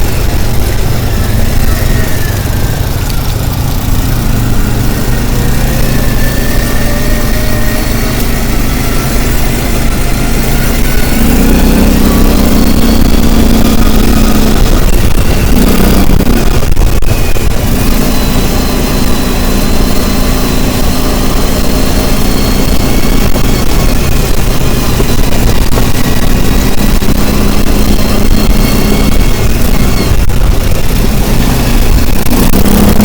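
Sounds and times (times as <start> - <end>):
road and wind noise: 0.0 - 33.0
vehicle engine running: 0.0 - 33.0.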